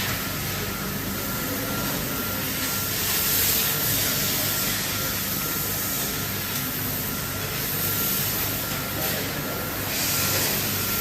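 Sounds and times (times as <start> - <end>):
laser cutting machine running: 0.0 - 11.0
low machine hum: 0.0 - 11.0
steady gas hiss: 0.0 - 11.0.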